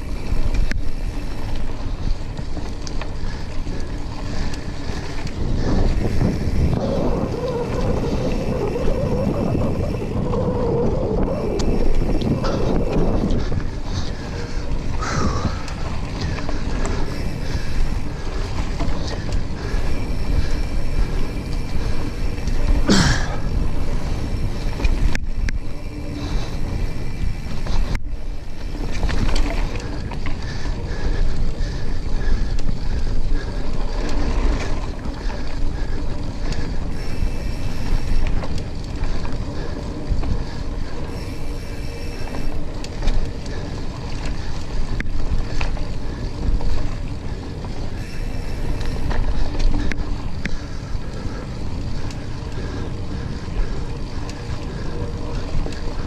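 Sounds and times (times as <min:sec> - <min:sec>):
tyres rolling on dirt: 0:00.0 - 0:56.0
wind noise on microphone: 0:00.0 - 0:56.0.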